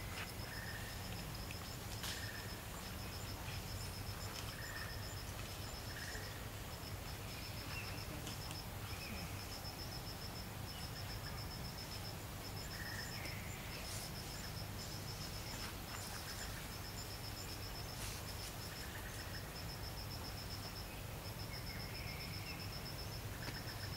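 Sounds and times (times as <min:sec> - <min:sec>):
insect chirping in rapid pulses: 0:00.0 - 0:23.9.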